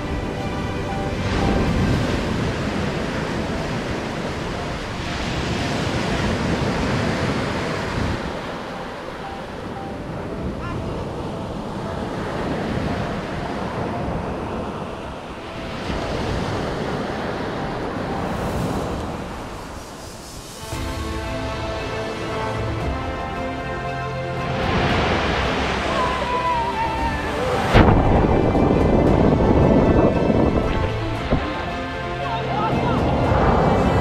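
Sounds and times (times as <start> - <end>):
sea surf breaking on beach: 0.0 - 34.0
wind noise on microphone: 0.0 - 34.0.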